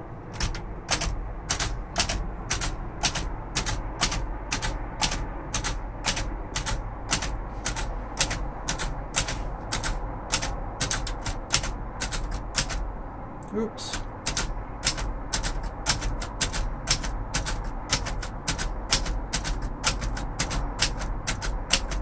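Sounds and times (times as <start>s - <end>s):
manual typewriter key clicks: 0.3s - 12.8s, 13.9s - 22.0s.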